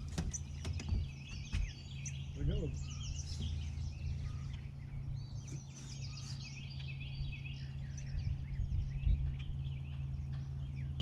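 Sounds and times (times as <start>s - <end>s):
boat motor humming: 0.0s - 11.0s
songbirds chirping and trilling: 0.0s - 11.0s.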